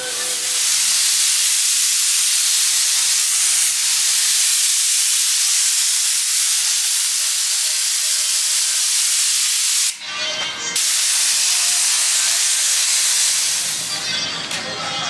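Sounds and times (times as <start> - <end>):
spray gun hissing: 0.0 - 10.0, 10.8 - 14.0.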